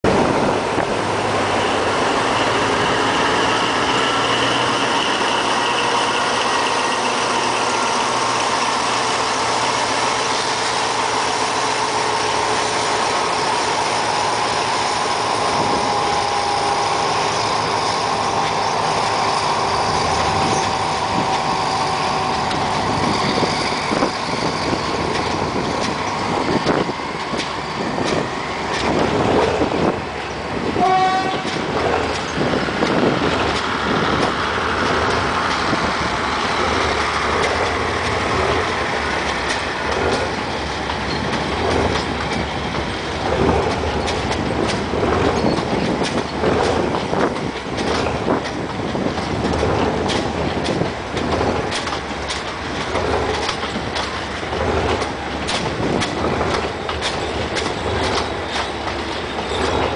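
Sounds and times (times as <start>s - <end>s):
locomotive engine running: 0.0s - 59.9s
train wheels clicking over rail joints: 0.1s - 59.9s.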